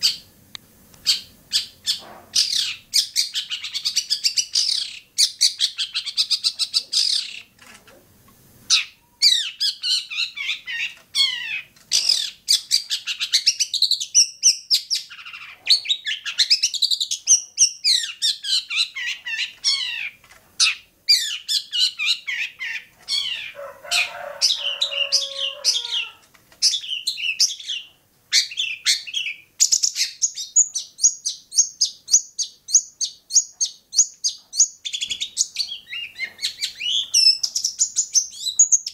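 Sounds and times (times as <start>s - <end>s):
bird chirps and trills: 0.0s - 0.3s, 1.0s - 7.6s, 8.7s - 38.9s.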